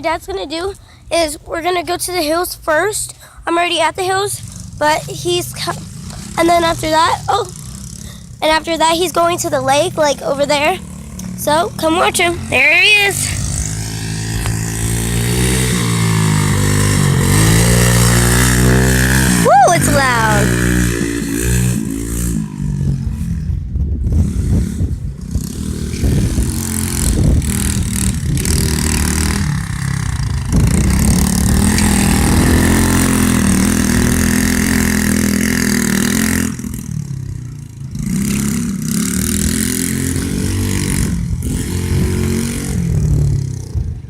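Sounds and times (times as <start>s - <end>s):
motorbike engine revving: 3.8s - 44.0s.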